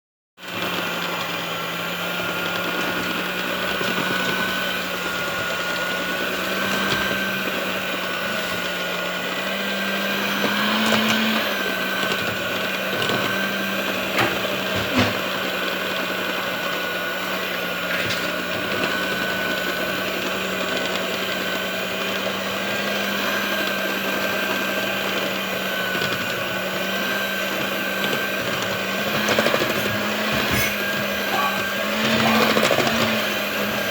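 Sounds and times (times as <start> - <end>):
small electric motor humming: 0.6 - 33.9.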